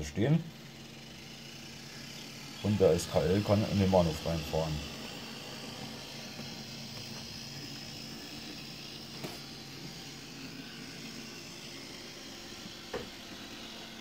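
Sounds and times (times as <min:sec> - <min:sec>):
model train trolley humming on track: 0:00.0 - 0:14.0.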